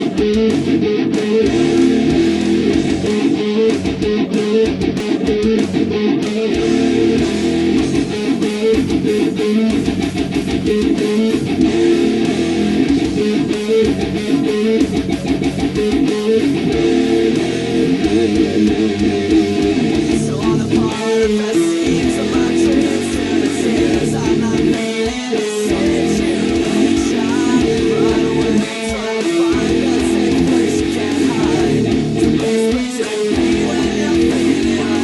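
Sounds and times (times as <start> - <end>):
electric guitar strumming: 0.0 - 35.0.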